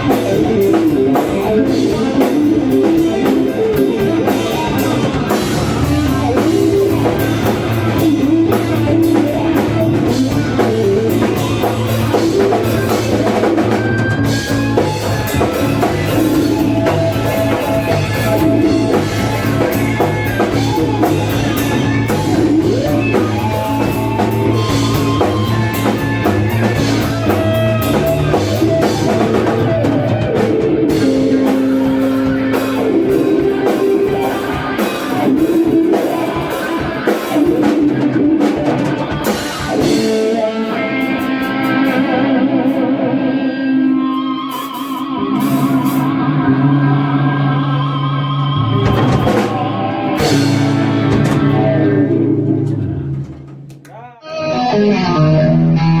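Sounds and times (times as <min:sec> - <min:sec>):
drum kit beat: 0:00.0 - 0:42.8, 0:44.2 - 0:46.2, 0:48.4 - 0:54.1
electric guitar melody: 0:00.0 - 0:56.0.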